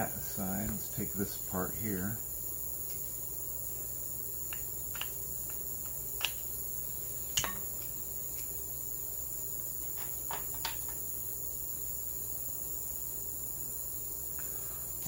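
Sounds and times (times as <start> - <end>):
steady high-pitched whine: 0.0 - 15.0.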